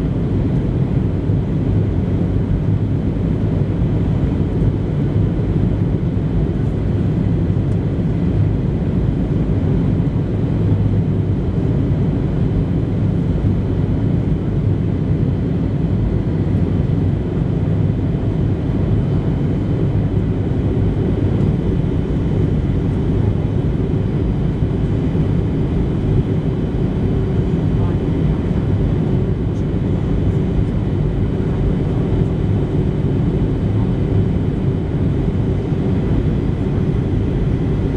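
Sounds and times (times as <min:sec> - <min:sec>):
airplane cabin engine rumble: 0:00.0 - 0:37.9.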